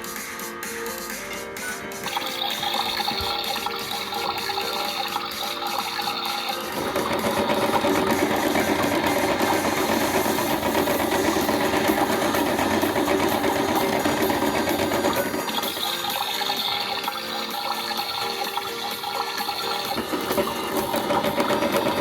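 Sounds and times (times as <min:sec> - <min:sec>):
toy washing machine motor: 0:02.0 - 0:22.0
water filling: 0:02.0 - 0:22.0.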